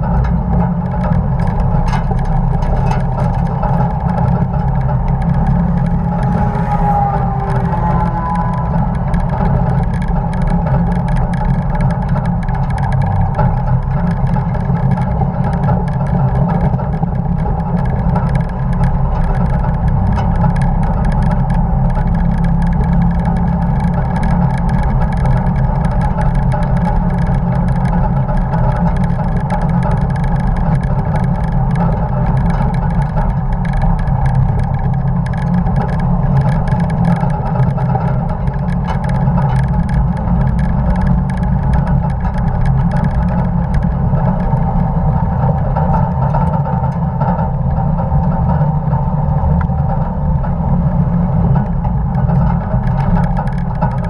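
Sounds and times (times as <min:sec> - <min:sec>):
truck engine running: 0:00.0 - 0:54.0
wind and road noise: 0:00.0 - 0:54.0.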